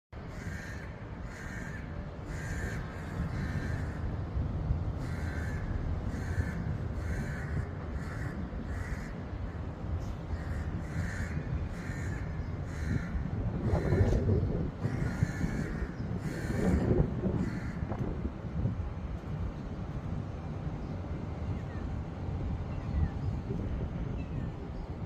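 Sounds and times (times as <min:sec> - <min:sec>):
steady low rumble: 0:00.1 - 0:25.0.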